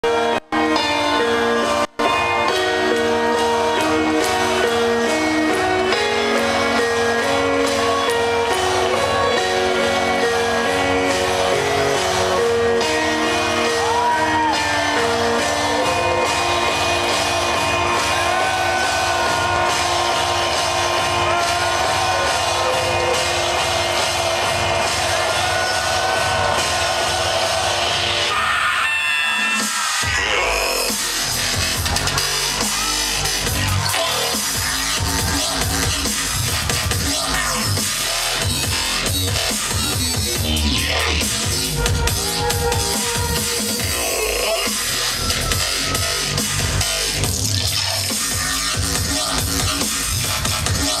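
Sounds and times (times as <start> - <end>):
electronic dance music: 0.0 - 51.0.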